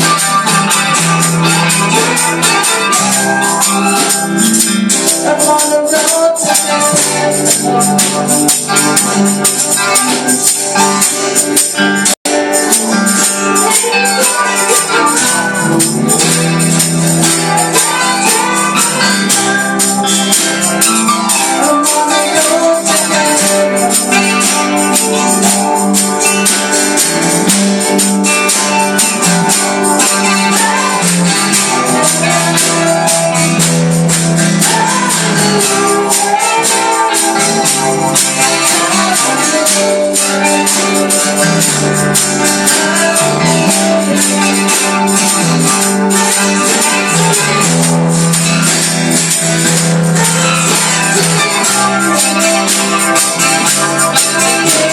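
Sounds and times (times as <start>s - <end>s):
gospel band playing: 0.0s - 54.9s
shaken percussion beat: 0.0s - 54.9s.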